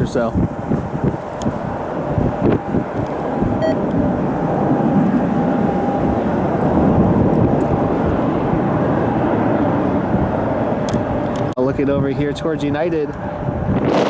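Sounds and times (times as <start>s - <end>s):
faint engine whine: 0.0s - 11.6s
jet engines at takeoff: 0.0s - 11.6s, 12.2s - 14.0s.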